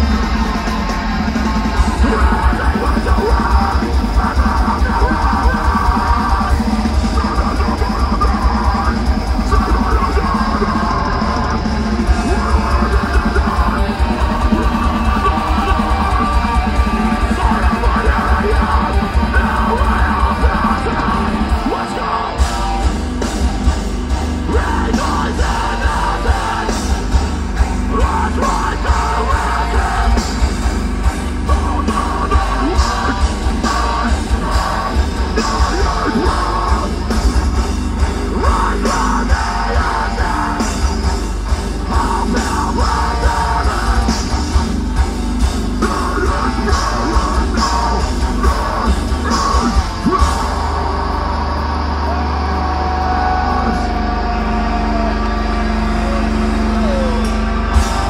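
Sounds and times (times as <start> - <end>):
distorted electric guitars: 0.0 - 58.0
pounding drums: 0.0 - 58.0
yelled vocals: 0.0 - 58.0.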